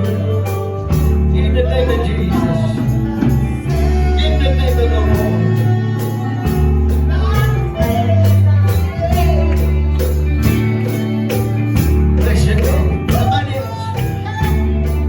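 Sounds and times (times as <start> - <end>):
bass guitar low notes: 0.0 - 15.0
person singing: 0.0 - 15.0
tambourine shaken: 0.0 - 15.0.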